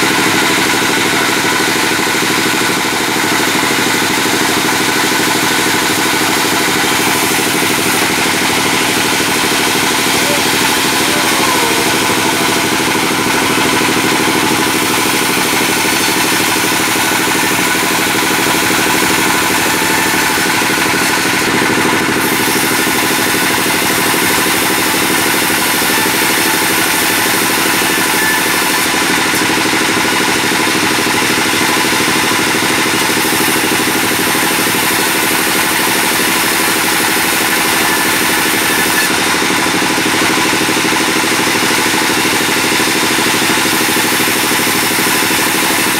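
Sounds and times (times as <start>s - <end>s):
bandsaw running: 0.0s - 45.9s.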